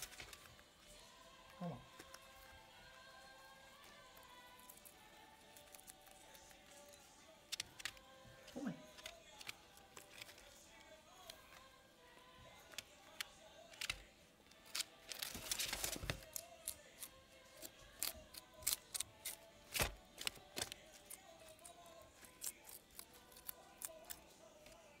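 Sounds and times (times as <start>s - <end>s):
guinea pig chewing vegetables: 0.0s - 25.0s.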